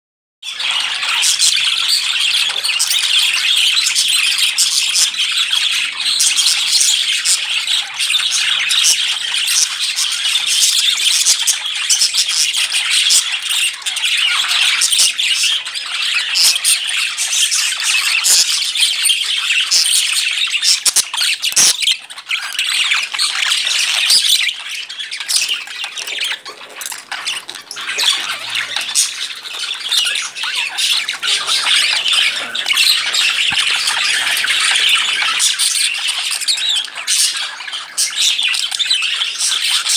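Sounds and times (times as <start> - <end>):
budgerigars chattering and squawking: 0.4 - 39.9.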